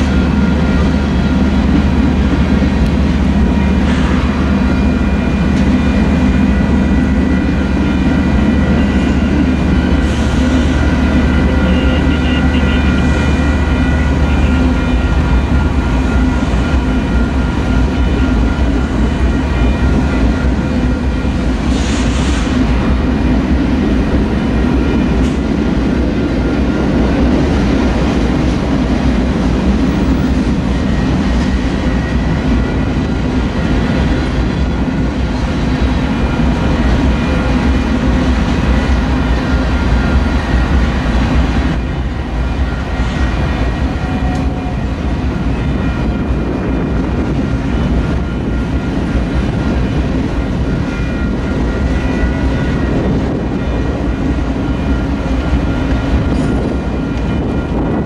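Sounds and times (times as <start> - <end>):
freight train wheels clattering on rails: 0.0 - 58.0.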